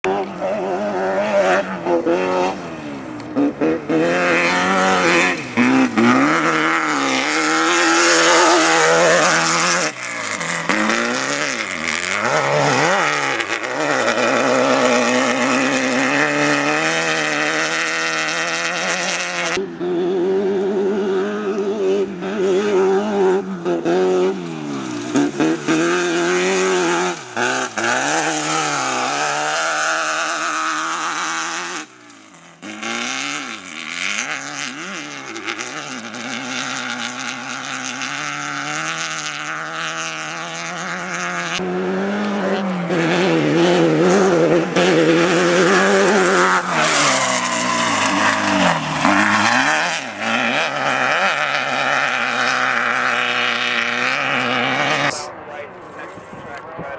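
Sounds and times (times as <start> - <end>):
race car engine revving: 0.0 - 56.9.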